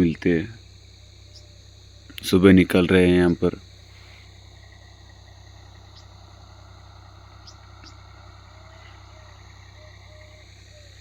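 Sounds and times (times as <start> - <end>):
bird chirps: 0.0 - 11.0
insects chirring: 0.0 - 11.0
low steady hum: 0.0 - 11.0.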